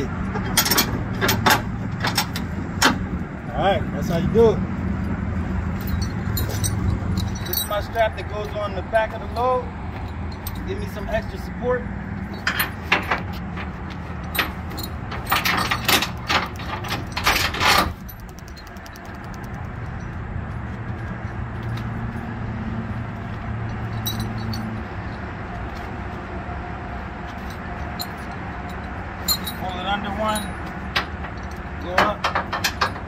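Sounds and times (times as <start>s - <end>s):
low engine hum: 0.0s - 31.8s
metal chain clinking on rail: 0.3s - 2.4s, 5.7s - 22.3s, 22.9s - 25.9s, 26.9s - 33.0s.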